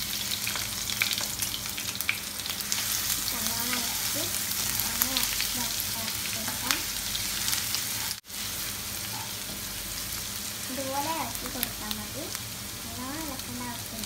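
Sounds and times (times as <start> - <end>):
spices sizzling in hot oil: 0.0 - 14.0.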